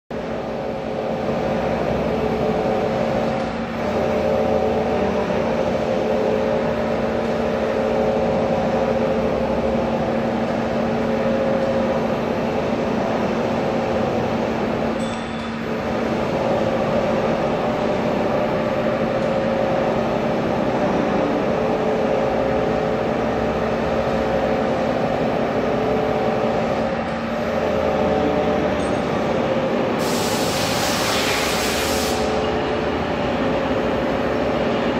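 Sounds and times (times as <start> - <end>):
pipe-bending machine humming: 0.2 - 34.9.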